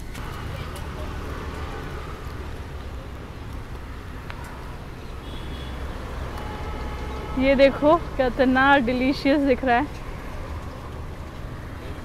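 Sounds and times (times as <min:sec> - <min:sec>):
low rumble of street traffic: 0:00.0 - 0:12.0.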